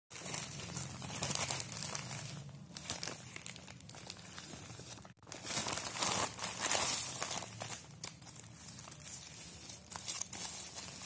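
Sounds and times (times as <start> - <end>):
plastic mailer bag crinkling: 0.1 - 11.0.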